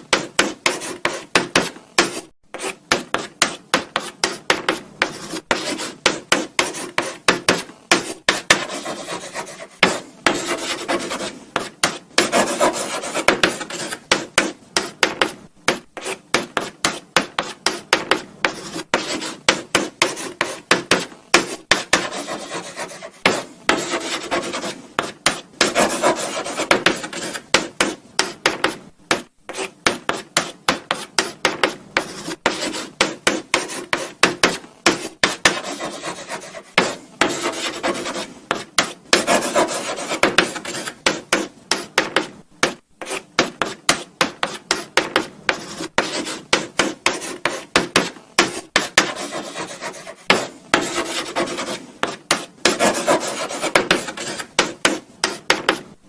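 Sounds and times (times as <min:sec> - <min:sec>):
chalk scratching on blackboard: 0:00.0 - 0:55.9.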